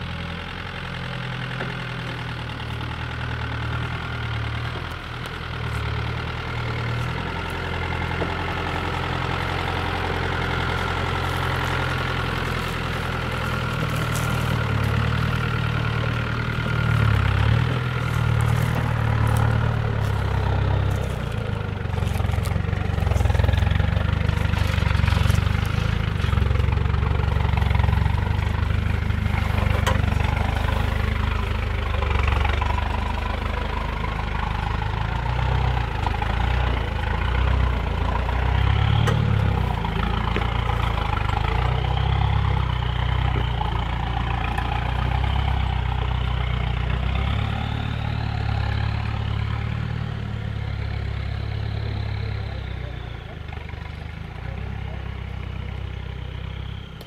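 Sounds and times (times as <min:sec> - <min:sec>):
engine running at low revs: 0:00.0 - 0:57.0.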